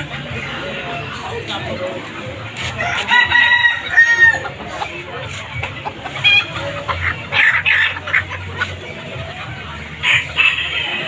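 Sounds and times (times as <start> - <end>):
chickens clucking and calling: 0.0 - 11.0.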